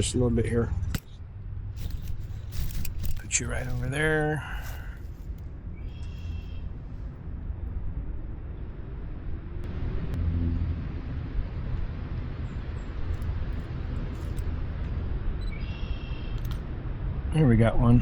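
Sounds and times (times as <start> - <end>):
faint rising hum: 0.0 - 18.0.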